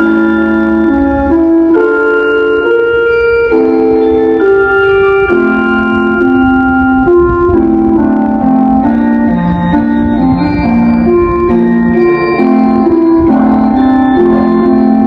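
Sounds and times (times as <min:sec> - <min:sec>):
electronic organ chime melody: 0:00.0 - 0:15.0
low rumble: 0:02.7 - 0:15.0.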